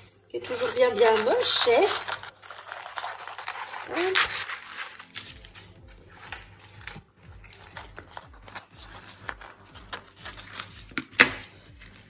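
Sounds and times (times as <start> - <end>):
faint paper rustling: 0.0 - 12.0
scissors snipping paper: 0.4 - 12.0.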